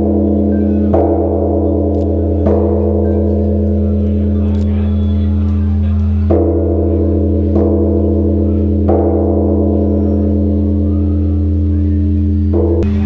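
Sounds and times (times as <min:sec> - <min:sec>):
large bell struck with log: 0:00.0 - 0:13.0.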